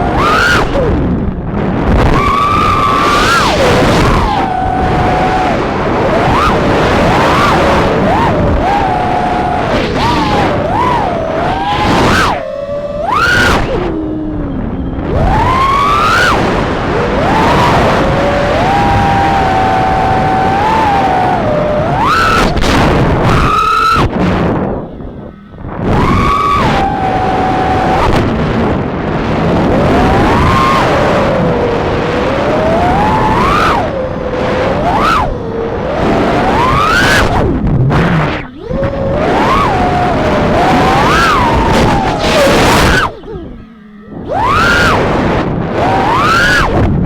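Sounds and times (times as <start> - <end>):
quadcopter motors whining: 0.0 - 47.0
rushing noise: 0.0 - 47.0.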